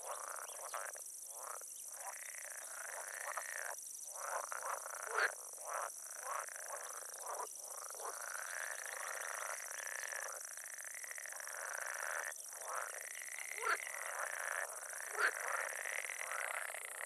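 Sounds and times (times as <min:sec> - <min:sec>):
frogs calling in chorus: 0:00.0 - 0:17.0
steady high-pitched hiss: 0:00.0 - 0:17.0.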